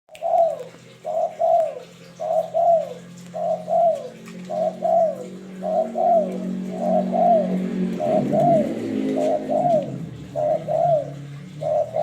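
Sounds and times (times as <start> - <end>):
dove cooing: 0.1 - 12.0
steady low hum: 0.1 - 12.0.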